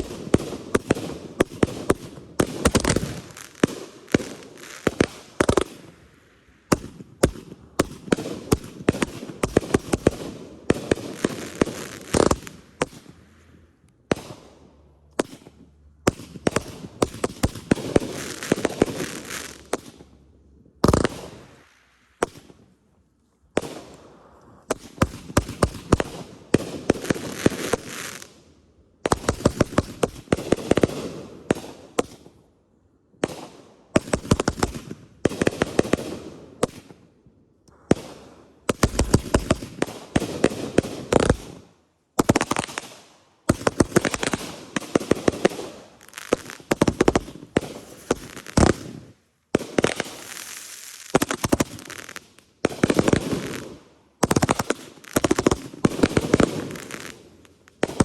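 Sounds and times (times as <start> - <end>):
fireworks bangs and crackles: 0.0 - 22.8, 23.5 - 32.5, 33.2 - 58.0.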